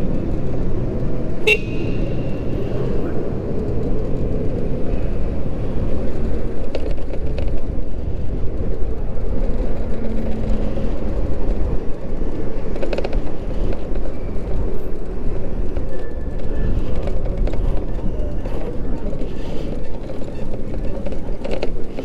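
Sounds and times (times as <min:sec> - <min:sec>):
road noise rumble: 0:00.0 - 0:22.0.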